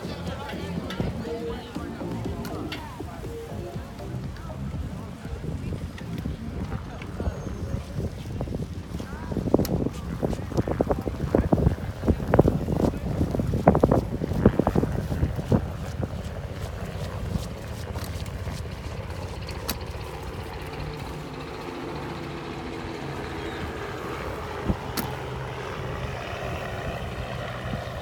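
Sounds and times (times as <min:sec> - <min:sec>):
wind on microphone: 0:00.0 - 0:28.0
bicycle tyre rumble: 0:04.0 - 0:28.0.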